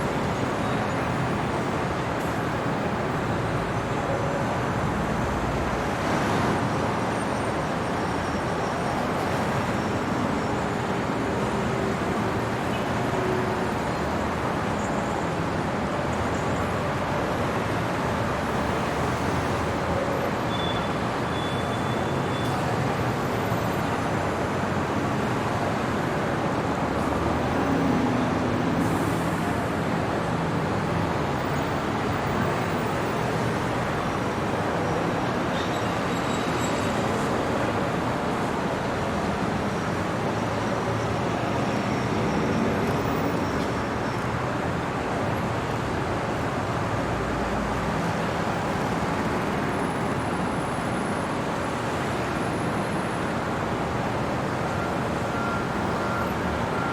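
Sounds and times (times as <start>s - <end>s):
city traffic rush: 0.0s - 56.9s.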